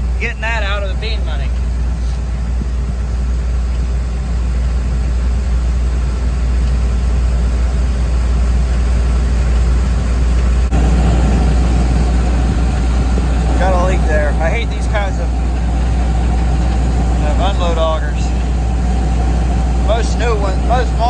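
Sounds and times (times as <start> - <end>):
farm machinery engine humming: 0.0 - 21.0
rough mid-range noise: 0.0 - 21.0.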